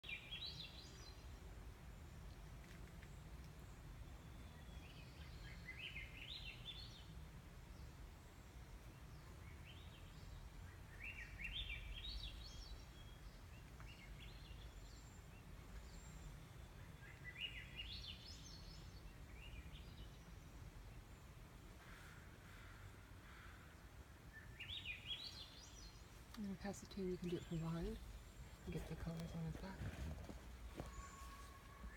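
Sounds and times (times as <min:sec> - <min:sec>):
bird singing: 0:00.0 - 0:01.5, 0:03.0 - 0:21.4, 0:24.2 - 0:31.9.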